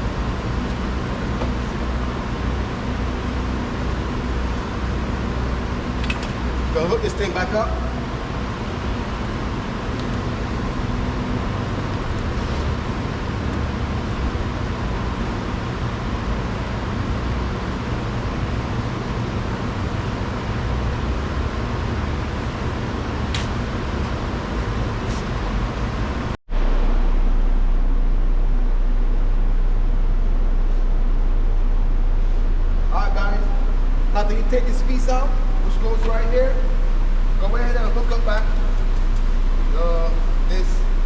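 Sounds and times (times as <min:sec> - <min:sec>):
mechanical low hum: 0:00.0 - 0:41.0
steady low rumble: 0:00.0 - 0:41.0.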